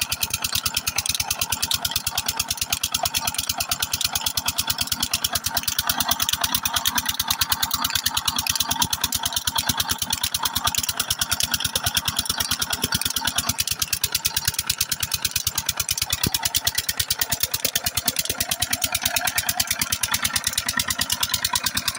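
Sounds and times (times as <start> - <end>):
diesel engine chugging: 0.0 - 21.9.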